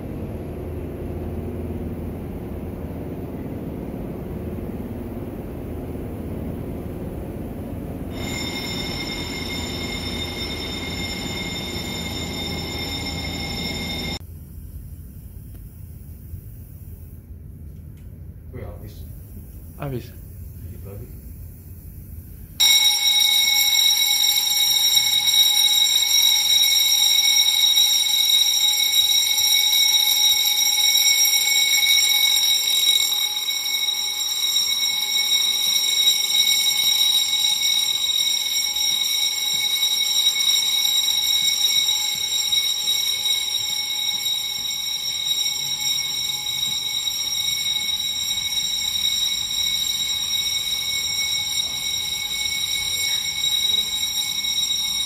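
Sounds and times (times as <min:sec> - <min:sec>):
fire alarm bell ringing: 0:00.7 - 0:14.2, 0:22.6 - 0:55.0.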